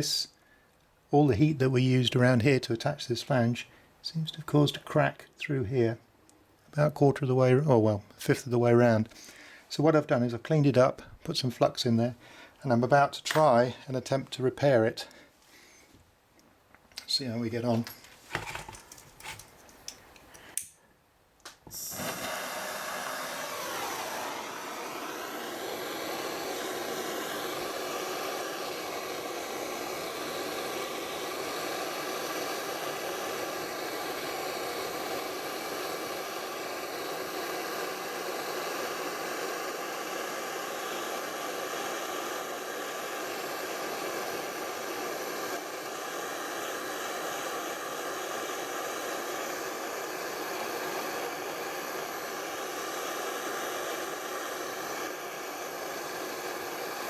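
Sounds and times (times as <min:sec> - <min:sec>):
blow lamp roaring hiss: 0:00.0 - 0:16.0, 0:16.8 - 0:57.0.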